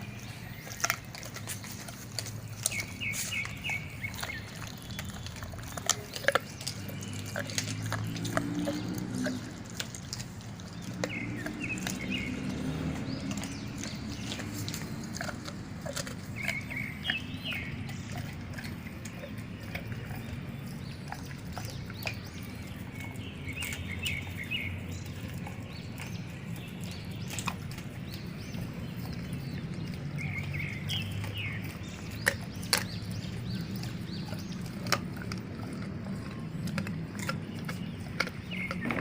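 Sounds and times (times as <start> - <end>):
bones cracking and crunching: 0.0 - 39.0
dogs chewing bones: 0.0 - 39.0.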